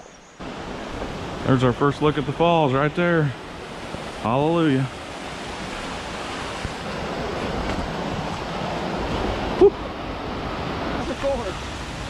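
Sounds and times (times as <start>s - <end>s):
waterfall rushing: 0.4s - 12.0s.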